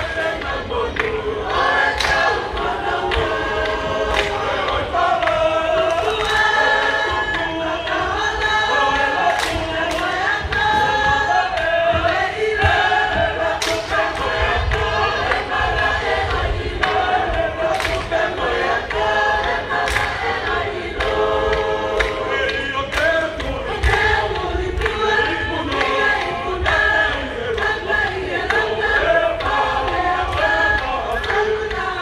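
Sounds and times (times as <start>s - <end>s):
choir singing a chanted song: 0.0s - 32.0s.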